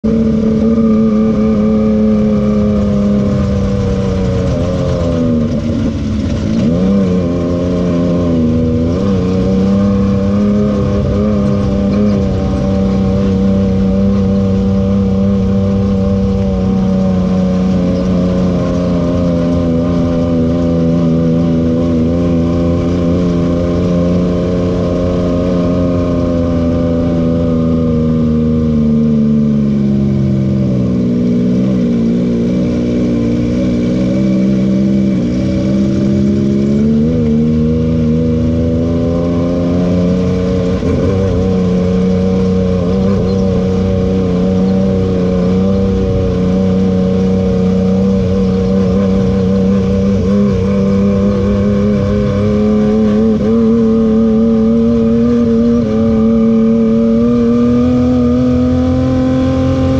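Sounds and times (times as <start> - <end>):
engine running hard: 0.0 - 59.9.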